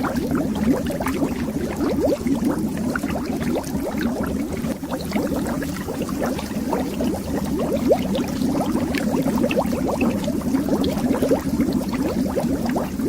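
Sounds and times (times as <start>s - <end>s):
bubbles gurgling under water: 0.0s - 13.0s.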